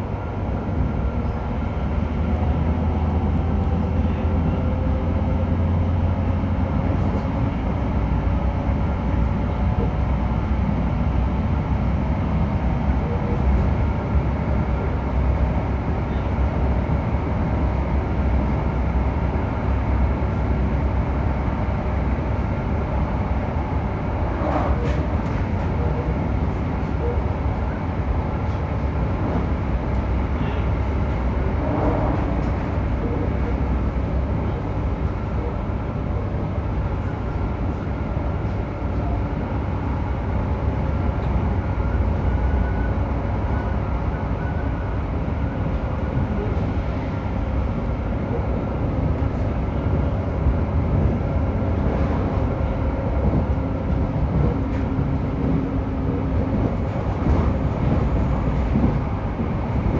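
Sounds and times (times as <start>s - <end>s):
train car low rumble: 0.0s - 59.9s.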